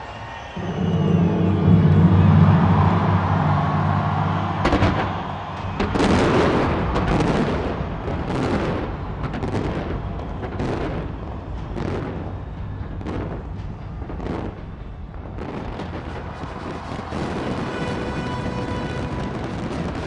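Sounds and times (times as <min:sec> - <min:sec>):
fireworks bangs and crackles: 0:00.3 - 0:20.0
low music: 0:00.6 - 0:19.2.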